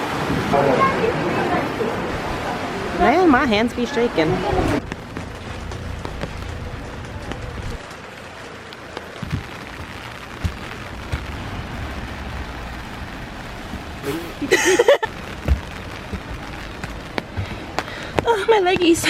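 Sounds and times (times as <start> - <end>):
rain: 0.0 - 19.0.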